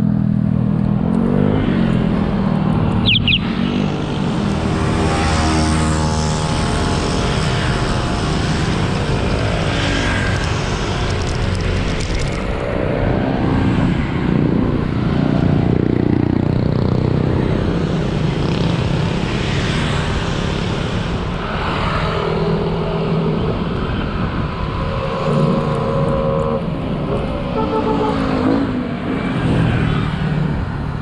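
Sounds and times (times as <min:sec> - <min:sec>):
steady rushing noise: 0:00.0 - 0:27.6
vehicle engines passing: 0:00.0 - 0:31.0.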